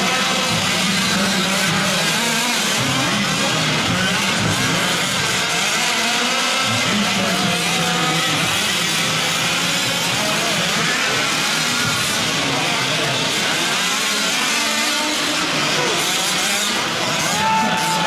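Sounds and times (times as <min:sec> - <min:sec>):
small two-stroke engines revving: 0:00.0 - 0:18.0.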